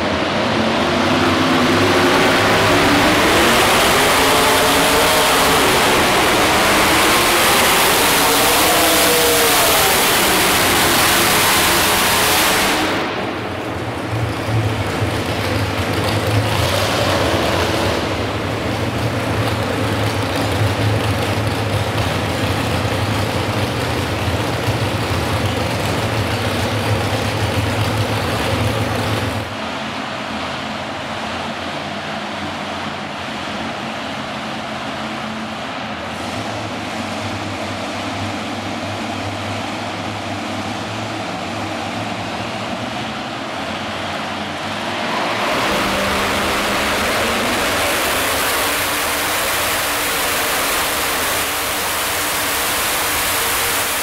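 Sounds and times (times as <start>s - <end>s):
indoor arena hum: 0.0s - 54.0s
tractor engine idling loudly: 0.0s - 54.0s.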